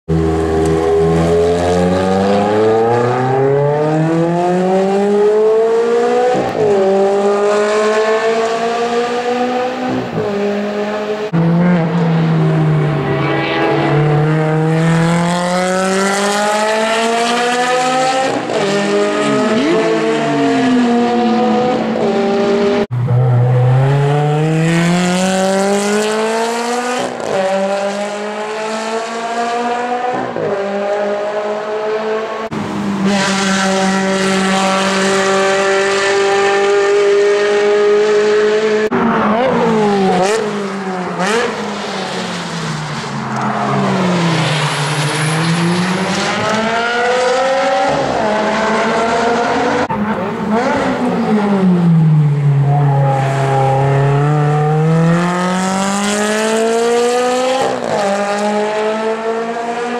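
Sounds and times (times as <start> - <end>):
car engine accelerating hard: 0.1 - 59.9.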